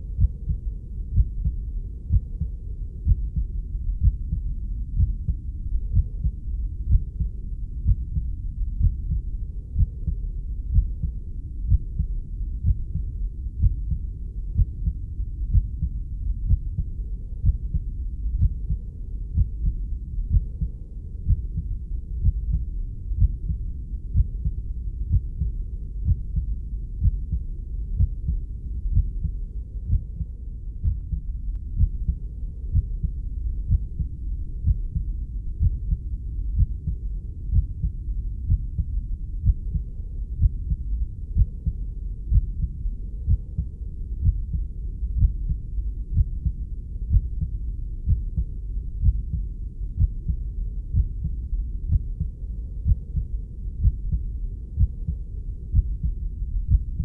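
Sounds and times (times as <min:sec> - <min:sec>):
continuous low rumble: 0:00.0 - 0:57.0
muffled heartbeat thuds: 0:00.0 - 0:57.0.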